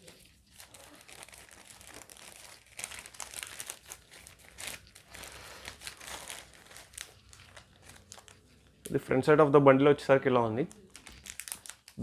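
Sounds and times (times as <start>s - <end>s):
packaging crinkling and tearing: 0.0s - 9.0s, 10.6s - 12.0s.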